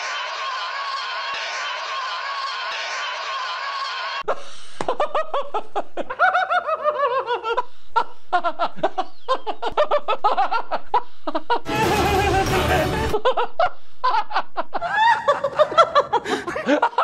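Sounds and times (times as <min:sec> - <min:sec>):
men laughing: 0:00.0 - 0:17.0.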